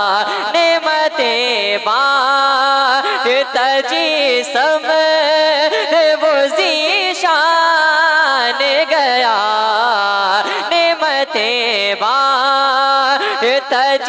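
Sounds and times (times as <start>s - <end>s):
man singing into microphone: 0.0s - 14.0s.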